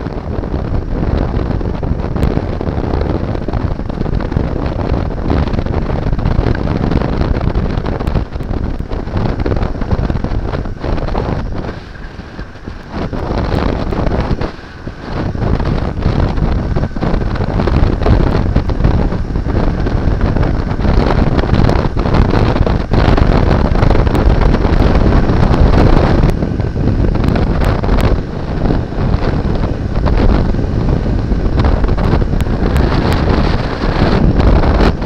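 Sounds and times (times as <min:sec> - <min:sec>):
motorcycle engine: 0:00.0 - 0:35.0
road noise: 0:00.0 - 0:35.0
wind buffeting microphone: 0:00.0 - 0:35.0.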